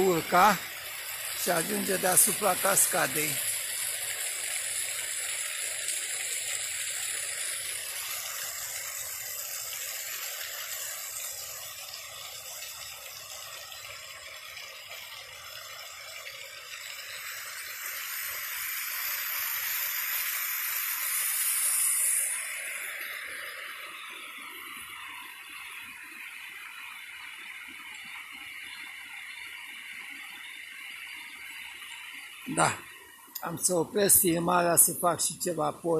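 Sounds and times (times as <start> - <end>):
waterfall onto rocks: 0.0 - 35.9.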